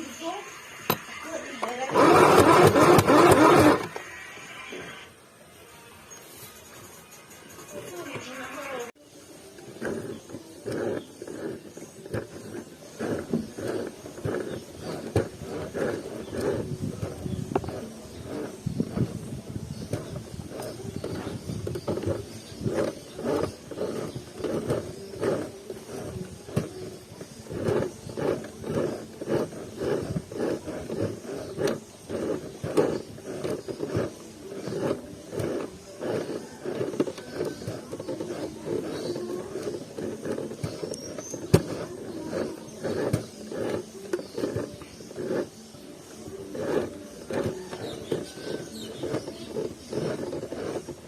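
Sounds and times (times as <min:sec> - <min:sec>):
sewing machine stitching denim: 0:01.3 - 0:05.0, 0:07.7 - 0:51.0.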